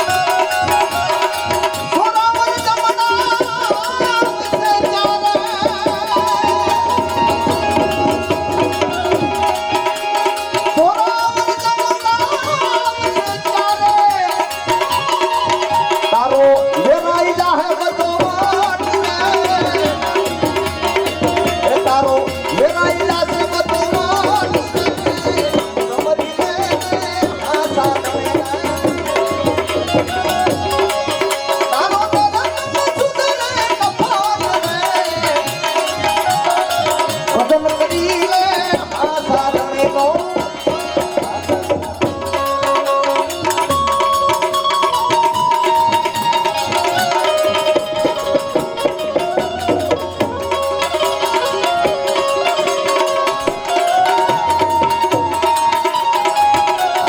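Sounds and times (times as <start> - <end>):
tabla playing: 0.0 - 57.0.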